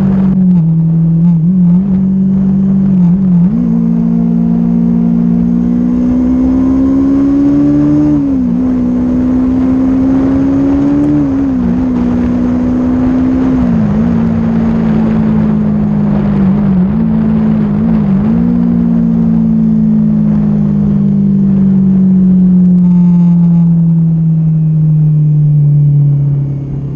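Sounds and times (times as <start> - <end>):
motorcycle engine at high revs: 0.0 - 26.9
wind noise on microphone: 0.0 - 26.9.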